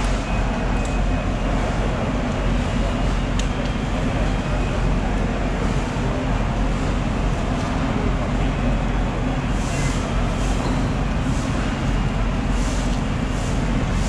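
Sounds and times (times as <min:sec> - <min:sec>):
low rumble of machinery: 0:00.0 - 0:14.0.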